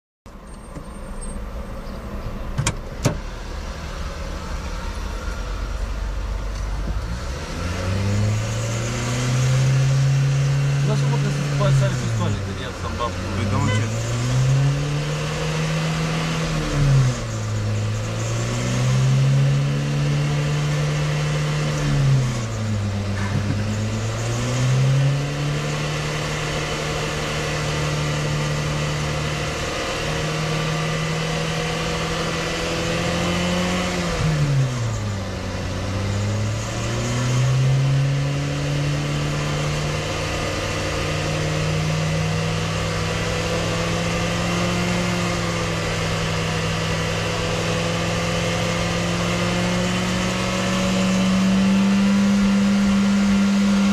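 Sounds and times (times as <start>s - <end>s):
car engine accelerating hard: 0.5s - 53.9s.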